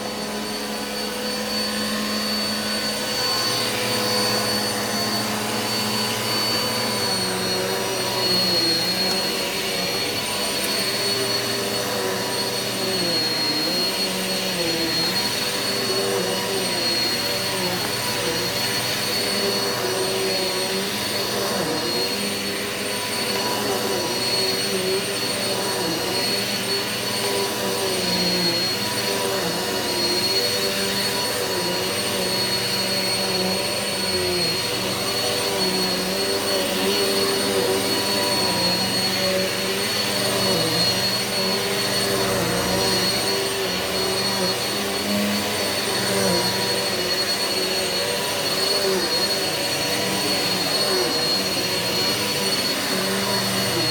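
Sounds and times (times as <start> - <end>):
vacuum cleaner whining on carpet: 0.0 - 53.9.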